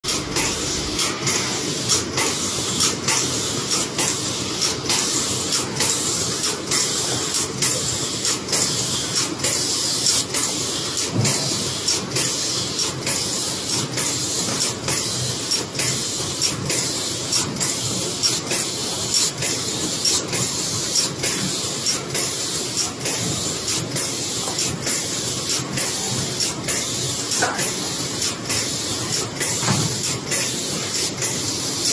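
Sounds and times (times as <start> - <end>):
wrapping machine hissing and rattling: 0.1 - 31.9.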